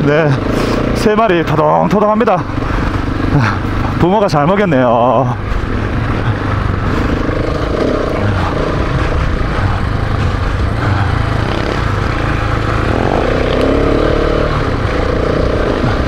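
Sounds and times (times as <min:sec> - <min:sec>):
constant rushing noise: 0:00.0 - 0:16.0
motorcycle engine running: 0:00.0 - 0:16.0.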